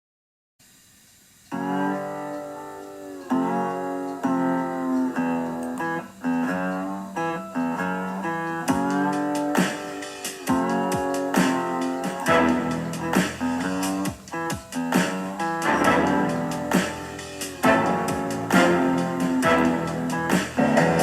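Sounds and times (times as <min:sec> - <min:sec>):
guitar chords ringing: 0:01.5 - 0:21.0.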